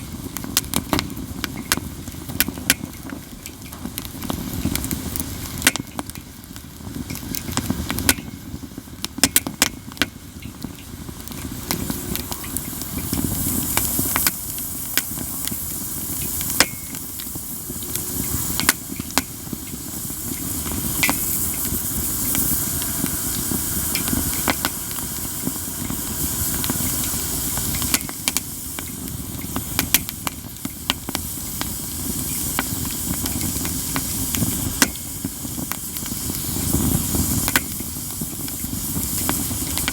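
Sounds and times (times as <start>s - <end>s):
campfire crackling and popping: 0.0s - 39.9s
hiss: 0.0s - 39.9s
low rumble of flames: 0.0s - 39.9s.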